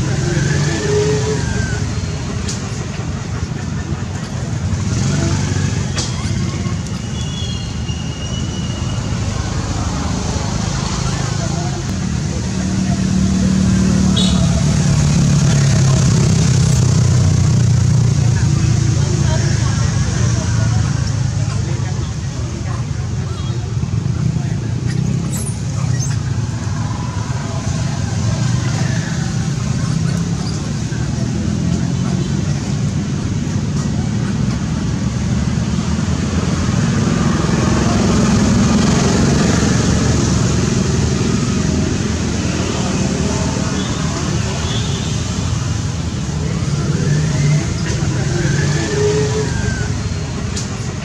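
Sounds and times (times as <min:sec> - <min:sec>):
faint voices: 0:00.0 - 0:51.0.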